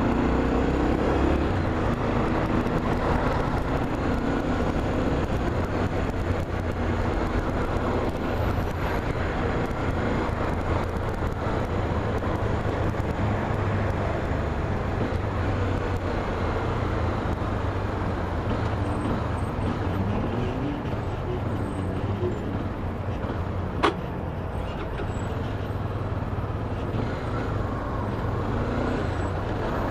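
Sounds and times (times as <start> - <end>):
vehicle rumble with hiss: 0.0 - 29.9.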